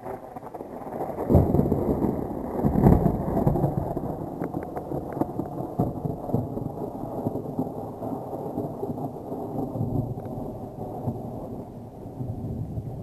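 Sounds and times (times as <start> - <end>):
thunder rumbling: 0.1 - 13.0.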